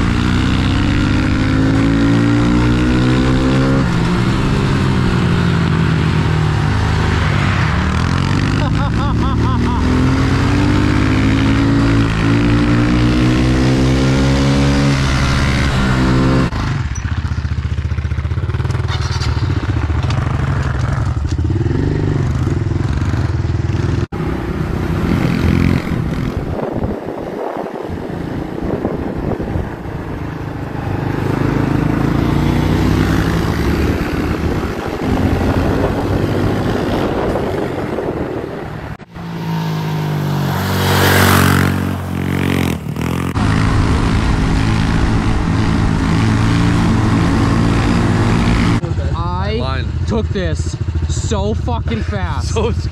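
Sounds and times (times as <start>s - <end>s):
motorbike engine revving: 0.0s - 52.9s.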